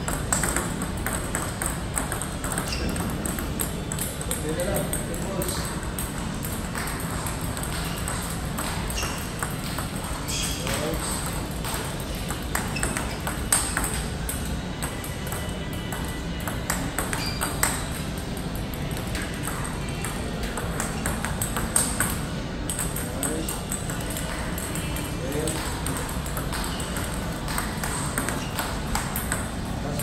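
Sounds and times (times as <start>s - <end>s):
ball bouncing on table: 0.0s - 18.0s, 19.0s - 30.0s.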